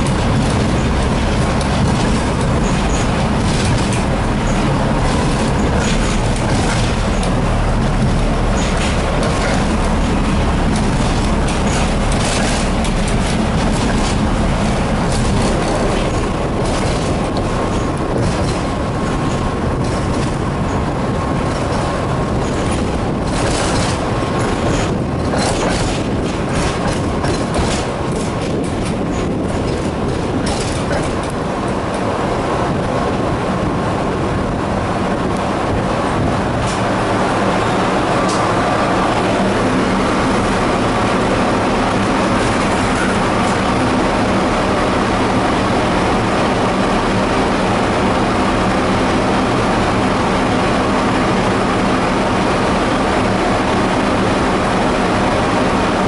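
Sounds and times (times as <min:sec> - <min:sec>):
tram low hum: 0:00.0 - 0:56.0
tram rumbling on track: 0:00.0 - 0:56.0
wheels clattering over rails: 0:00.0 - 0:56.0.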